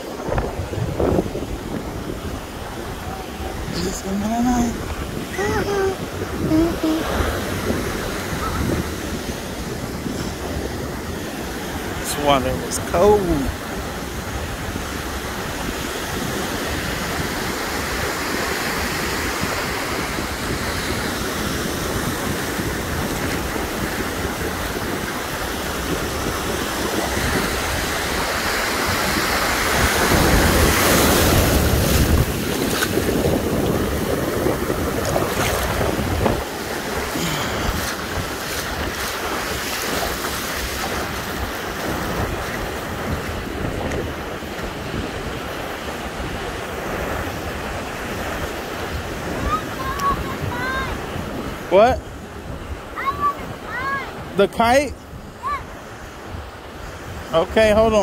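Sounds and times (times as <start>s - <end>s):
surf washing onto sandy beach: 0.0s - 58.0s
wind buffeting microphone: 0.0s - 58.0s.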